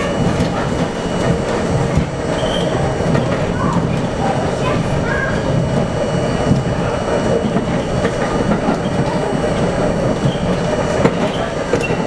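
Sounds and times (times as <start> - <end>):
wheels clicking over rail joints: 0.0 - 12.0
wheels rumbling on rail: 0.0 - 12.0.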